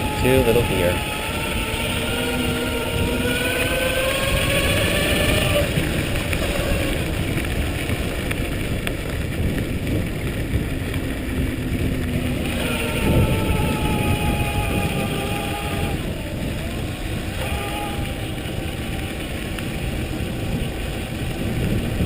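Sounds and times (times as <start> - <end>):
electric bike motor whining: 0.0 - 22.0
wind rumble on microphone: 0.0 - 22.0.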